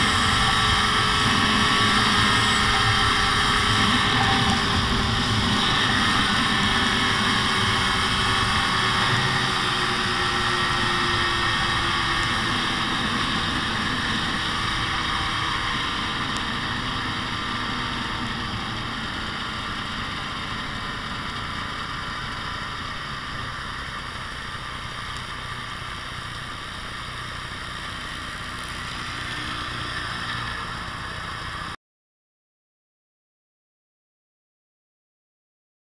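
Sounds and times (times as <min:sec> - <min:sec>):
snowmobile engine running: 0:00.0 - 0:31.8.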